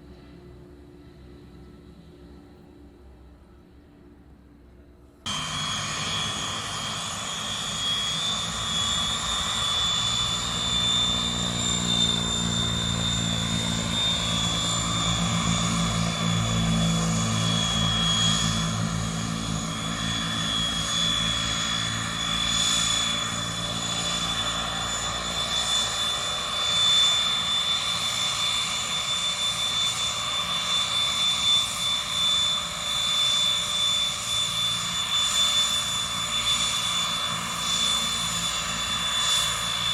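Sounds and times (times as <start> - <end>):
propeller drone: 0.0 - 39.9
turboprop engine whine: 0.0 - 39.9.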